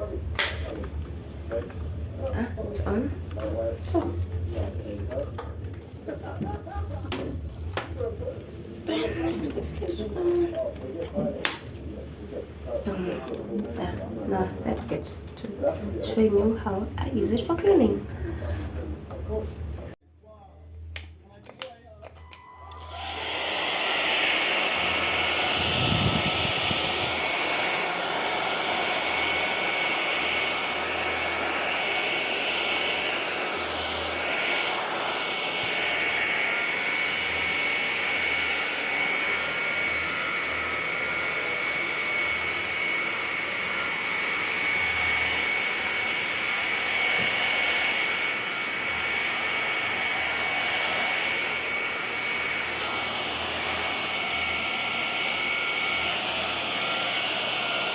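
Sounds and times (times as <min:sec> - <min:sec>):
stick vacuum cleaner running: 0:00.0 - 0:20.0, 0:22.0 - 0:57.9.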